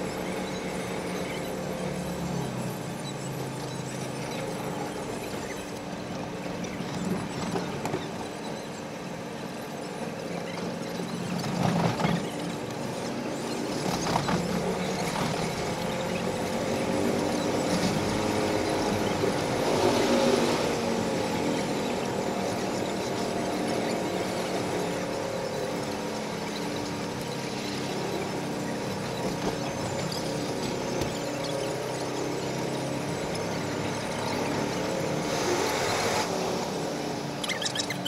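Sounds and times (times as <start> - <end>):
wavering squealing tones: 0.0 - 38.0
wheels rumbling on rails: 0.0 - 38.0.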